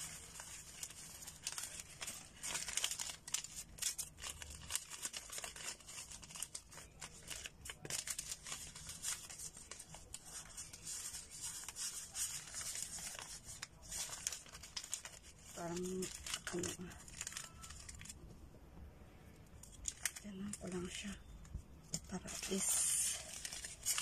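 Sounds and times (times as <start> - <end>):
banknotes rustling: 0.0 - 18.2, 22.0 - 24.0.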